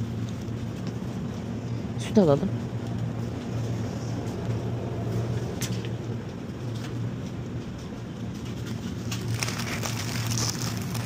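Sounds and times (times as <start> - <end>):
rustle of handled goods: 0.0 - 11.0
supermarket background hum: 0.0 - 11.0.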